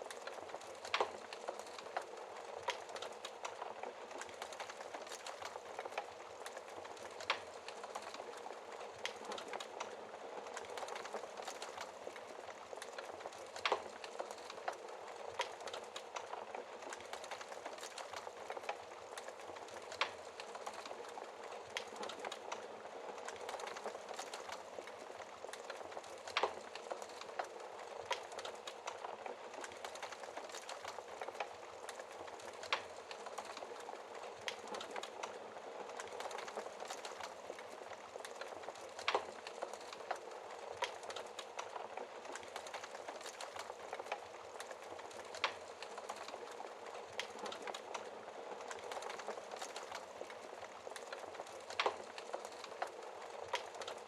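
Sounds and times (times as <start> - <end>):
fireplace fire crackling and popping: 0.0 - 54.0.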